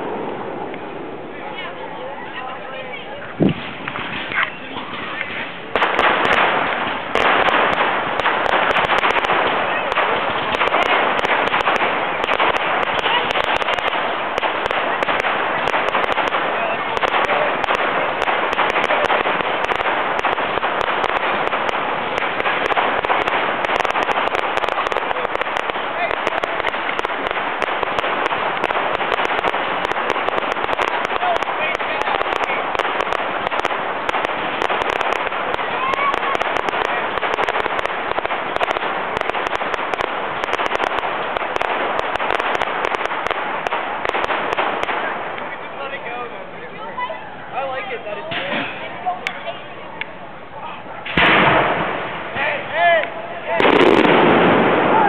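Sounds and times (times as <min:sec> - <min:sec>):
fireworks crackling and popping: 0:00.0 - 0:55.0.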